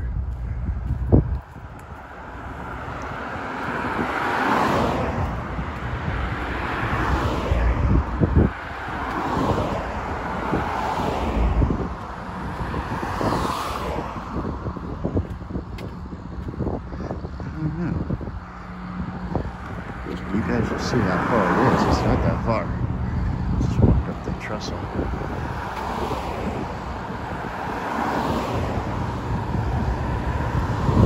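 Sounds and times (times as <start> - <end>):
cars passing: 0.0 - 31.0
wind rumbling on microphone: 0.0 - 31.0.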